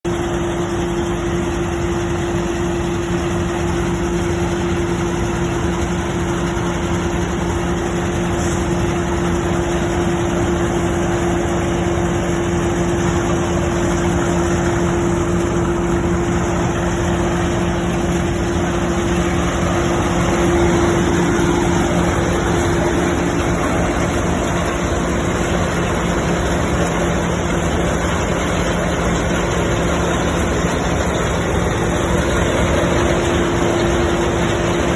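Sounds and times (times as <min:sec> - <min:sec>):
grading machine running: 0:00.1 - 0:34.9
tractor engine hum: 0:00.1 - 0:34.9.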